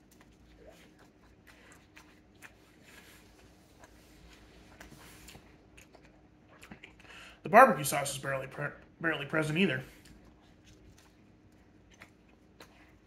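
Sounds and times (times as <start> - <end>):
person chewing: 0.0 - 7.4, 9.9 - 13.0
faint steady hum: 0.0 - 13.0.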